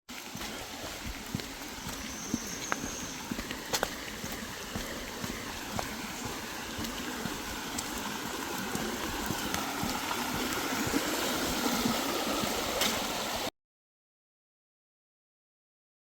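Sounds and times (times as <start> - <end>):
rushing water: 0.1 - 13.5.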